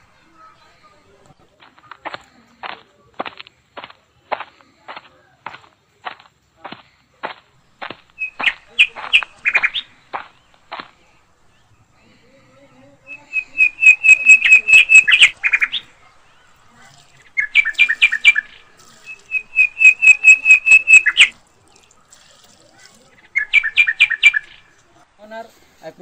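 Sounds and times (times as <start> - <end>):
bird chirping: 0.0 - 22.1, 23.0 - 25.0.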